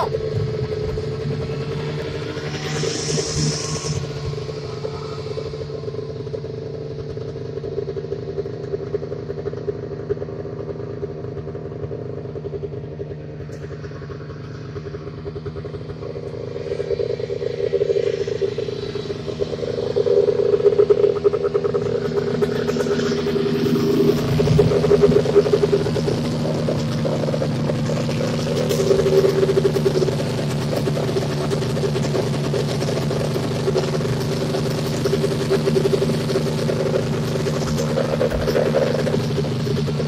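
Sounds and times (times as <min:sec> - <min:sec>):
snowmobile engine running: 0:00.0 - 0:40.0.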